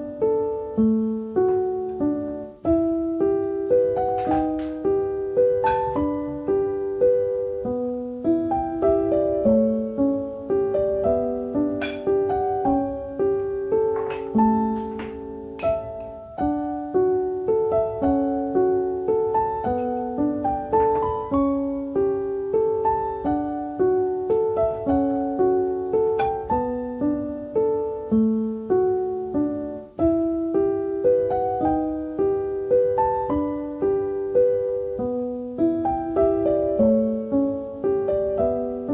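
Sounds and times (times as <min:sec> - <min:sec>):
solo piano melody: 0:00.0 - 0:38.9.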